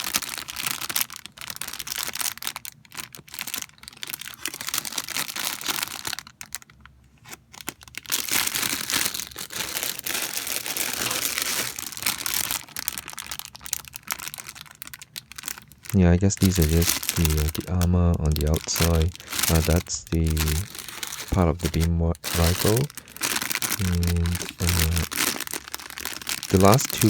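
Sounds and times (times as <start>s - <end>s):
plastic packaging crinkling: 0.0s - 27.0s.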